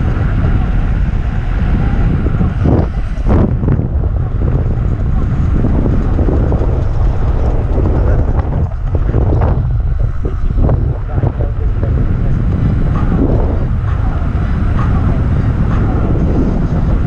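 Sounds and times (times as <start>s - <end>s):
skateboard wheels rumbling: 0.0s - 17.0s
wind buffeting microphone: 0.0s - 17.0s.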